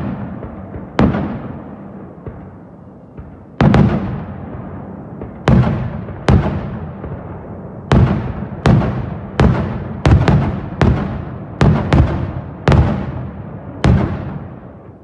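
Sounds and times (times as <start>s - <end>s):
fireworks bangs with rumbling echo: 0.0s - 15.0s.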